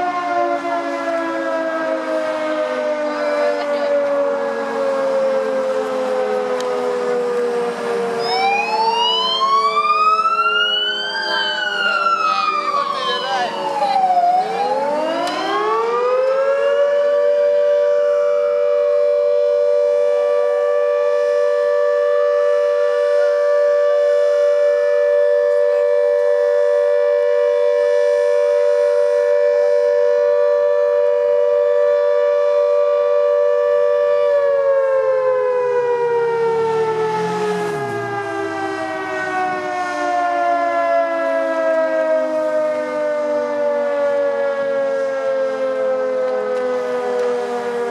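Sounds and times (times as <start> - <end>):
faint fire engine siren: 0.0 - 47.9
motor siren wailing: 0.0 - 47.9.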